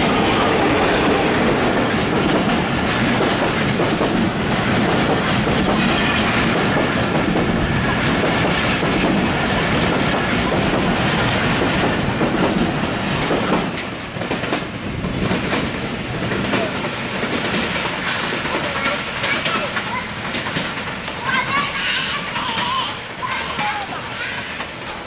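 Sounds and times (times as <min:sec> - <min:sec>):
train rumbling past: 0:00.0 - 0:25.0
wheels clicking over rail joints: 0:01.0 - 0:25.0.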